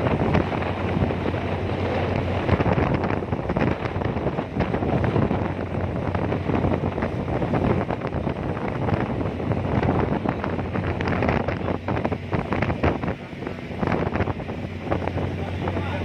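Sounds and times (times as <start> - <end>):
ferry engine hum: 0.0 - 16.0
wind buffeting microphone: 0.0 - 16.0.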